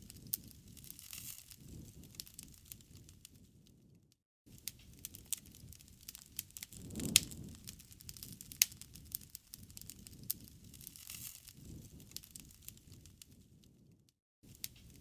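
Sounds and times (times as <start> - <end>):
soft rush of flames: 0.0 - 3.5, 4.6 - 13.9
campfire crackling and popping: 0.0 - 15.0.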